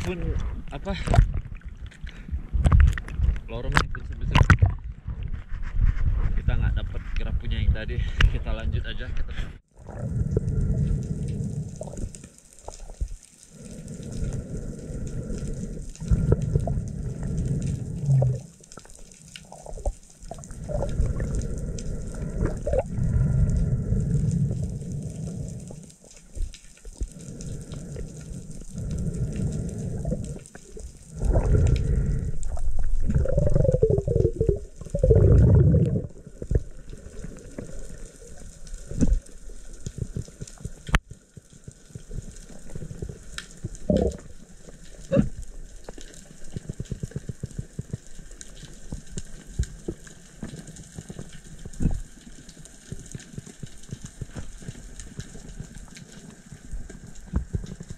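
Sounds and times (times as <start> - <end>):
underwater gurgling: 0.0 - 5.4, 9.7 - 57.9
underwater rumbling water: 0.0 - 6.8, 9.6 - 57.9.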